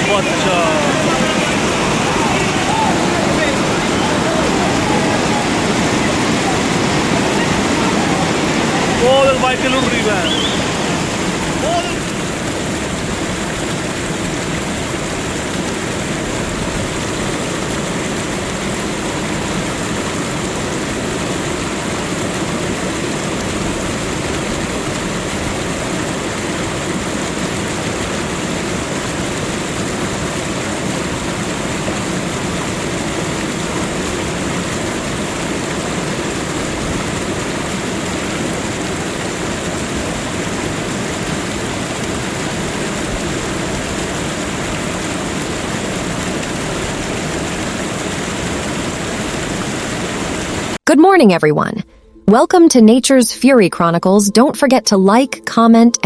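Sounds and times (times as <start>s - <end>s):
water rushing: 0.0s - 50.8s.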